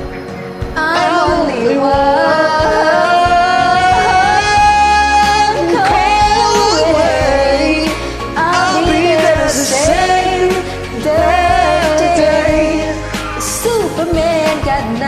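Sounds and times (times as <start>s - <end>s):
pop backing track: 0.0s - 15.0s
person singing long notes: 0.8s - 13.0s.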